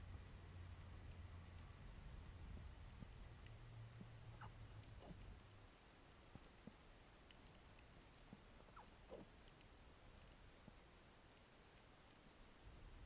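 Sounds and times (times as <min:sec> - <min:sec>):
small clicks and crackles: 0:00.0 - 0:13.0
faint underwater ambience: 0:00.2 - 0:13.0.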